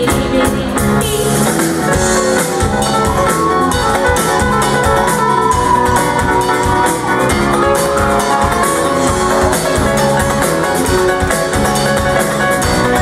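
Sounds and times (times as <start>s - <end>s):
drum kit beat: 0.0s - 13.0s
electric guitar: 0.0s - 13.0s
rock band playing: 0.0s - 13.0s.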